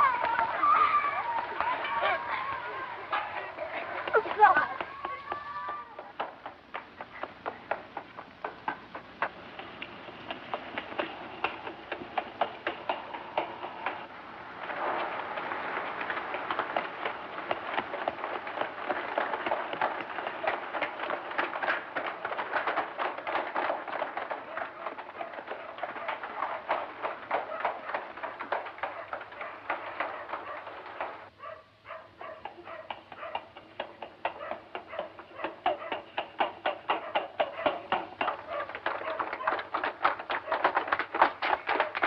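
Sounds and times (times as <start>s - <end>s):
children's shoes running on cobblestones: 0.0s - 42.0s.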